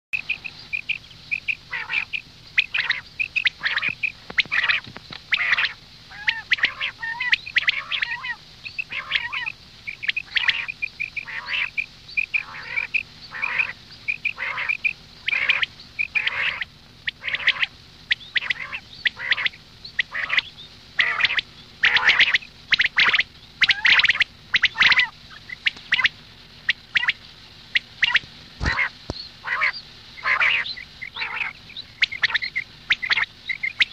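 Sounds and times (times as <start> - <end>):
birds giving short calls: 0.2 - 33.9.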